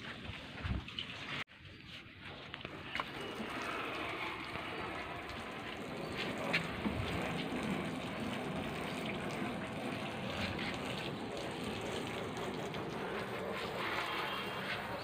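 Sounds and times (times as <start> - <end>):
hose spraying water on car: 2.7 - 15.0.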